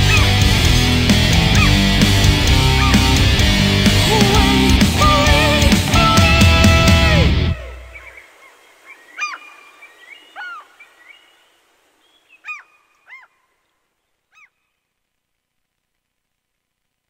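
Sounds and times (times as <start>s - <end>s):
birds calling: 0.0s - 14.8s.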